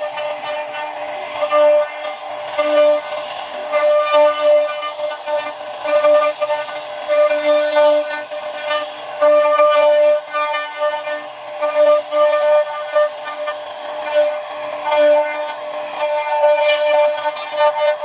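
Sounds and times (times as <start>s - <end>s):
bit cutting into wood: 0.0s - 18.0s
router spindle whining: 0.0s - 18.0s.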